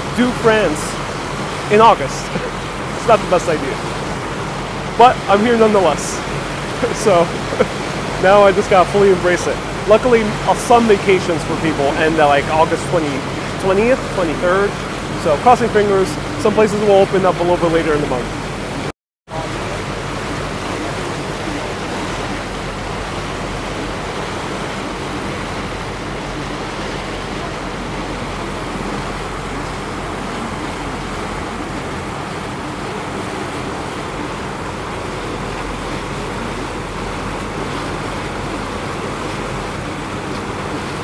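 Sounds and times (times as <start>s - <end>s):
low steady hum: 0.0s - 41.0s
water rushing past boat: 0.0s - 41.0s.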